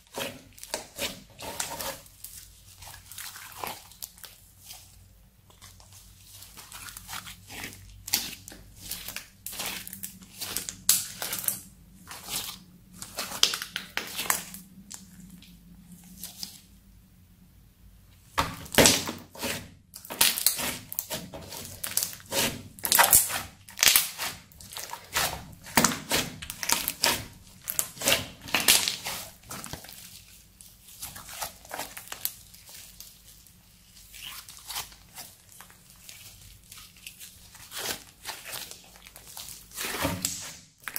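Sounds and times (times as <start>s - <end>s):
crunchy slime crackling: 0.0s - 16.6s, 18.3s - 40.9s.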